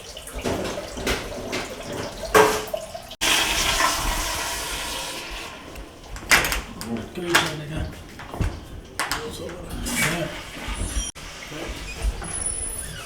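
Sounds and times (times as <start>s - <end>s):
water running and splashing: 0.0s - 12.4s
toilet flushing: 0.0s - 13.0s.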